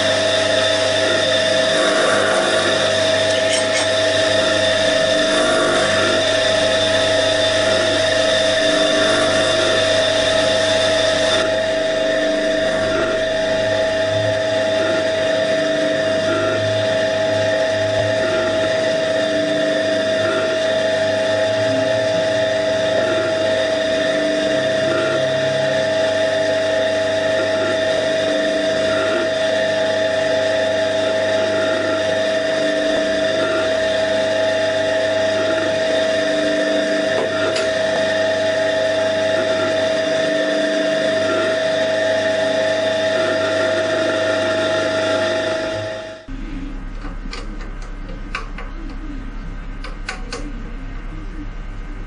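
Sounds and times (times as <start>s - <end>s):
vacuum pump whining: 0.0s - 52.0s.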